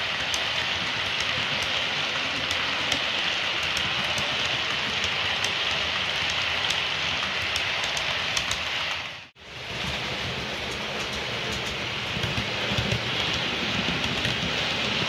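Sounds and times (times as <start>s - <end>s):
light clicks of model train: 0.0s - 8.7s, 10.6s - 14.4s
model train running hiss: 0.0s - 15.0s.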